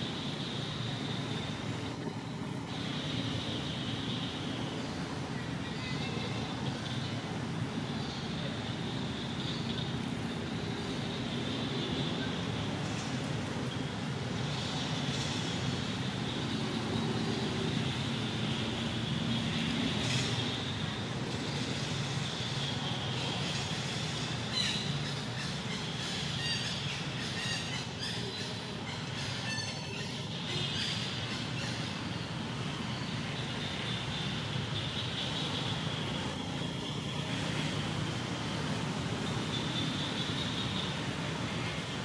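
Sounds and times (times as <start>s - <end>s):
steady high-pitched whine: 0.0s - 42.0s.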